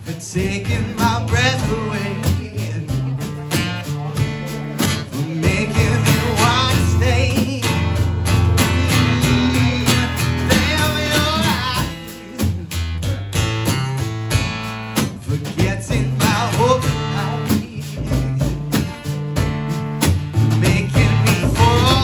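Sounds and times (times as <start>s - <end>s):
man singing: 0.0s - 14.2s, 15.0s - 19.2s, 20.4s - 22.0s
drum kit beat: 0.0s - 22.0s
strummed acoustic guitar: 0.0s - 22.0s.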